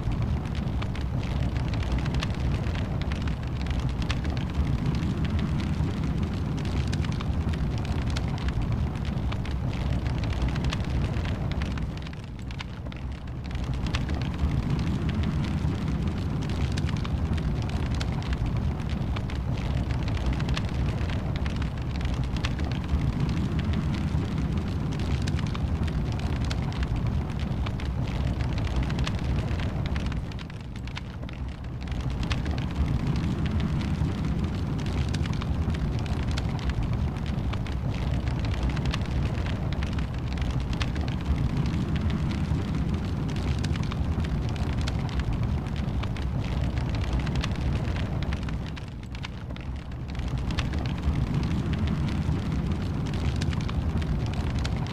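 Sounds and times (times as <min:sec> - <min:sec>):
low rumble of flames: 0:00.0 - 0:54.9
wood fire crackling and popping: 0:00.0 - 0:54.9.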